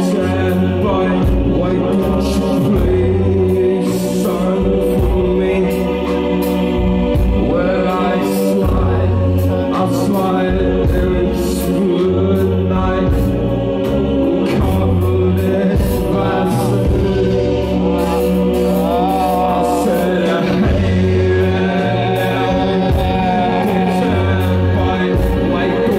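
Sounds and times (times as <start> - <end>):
live band playing: 0.0 - 25.9
person singing: 0.0 - 25.9.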